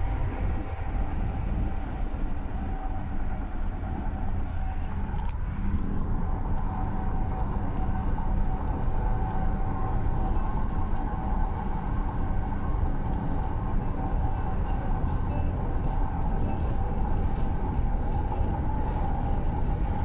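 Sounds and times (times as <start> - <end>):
car road and engine noise: 0.0 - 20.0
faint steady hum: 0.0 - 20.0.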